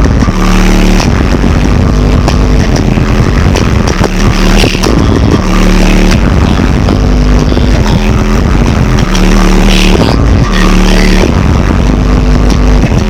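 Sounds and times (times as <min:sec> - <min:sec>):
distorted bass-heavy hip-hop: 0:00.0 - 0:13.0.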